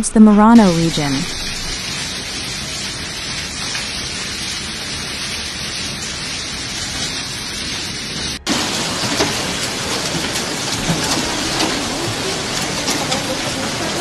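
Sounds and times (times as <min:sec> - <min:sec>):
heavy rain and hail: 0:00.5 - 0:14.0.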